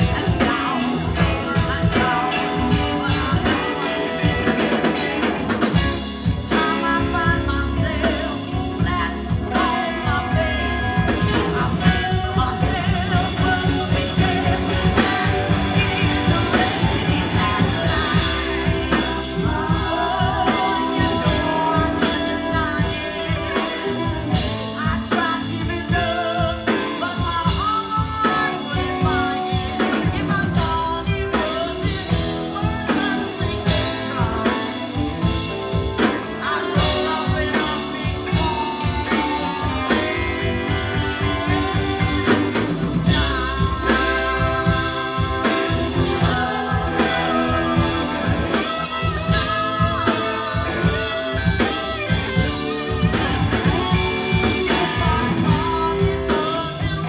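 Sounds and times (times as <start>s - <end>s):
rock band playing: 0.0s - 57.0s
woman singing: 0.0s - 57.0s.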